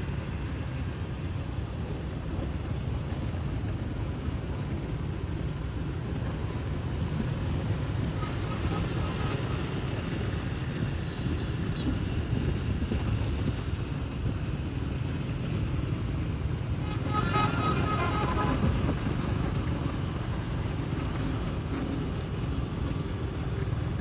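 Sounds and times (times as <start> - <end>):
motorbikes and cars passing: 0.0 - 24.0.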